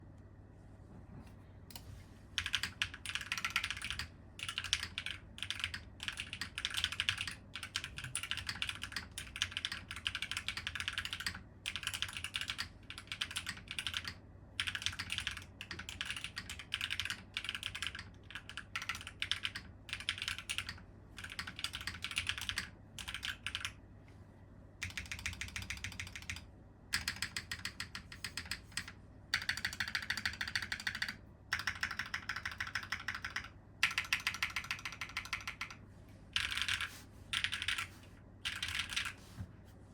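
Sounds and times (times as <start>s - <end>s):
typing on mechanical keyboard: 2.4s - 23.8s, 24.8s - 35.8s, 36.4s - 39.2s.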